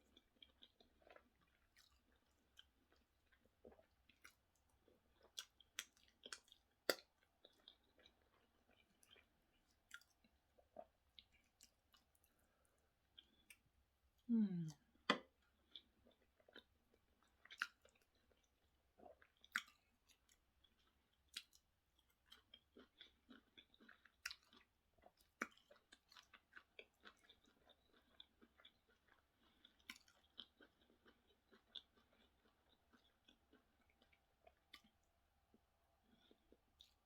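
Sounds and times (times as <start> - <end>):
person chewing soft food: 0.0 - 37.0.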